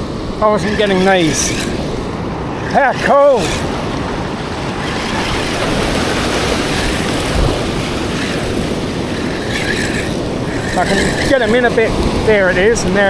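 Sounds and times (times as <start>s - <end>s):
surf washing on beach: 0.0s - 13.0s
wind on microphone: 0.0s - 13.0s.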